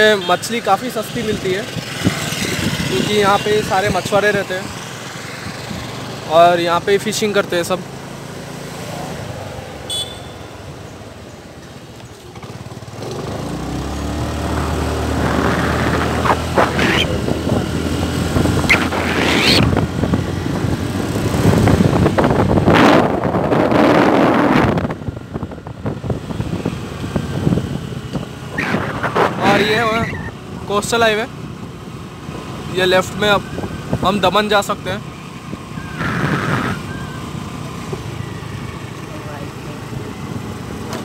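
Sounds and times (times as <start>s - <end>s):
road and wind noise: 0.0s - 41.0s.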